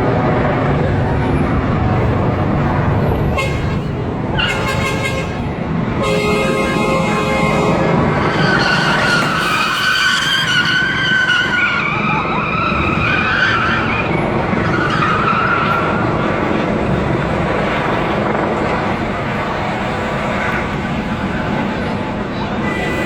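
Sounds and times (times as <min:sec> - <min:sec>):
car tyres screeching: 0:00.1 - 0:23.0.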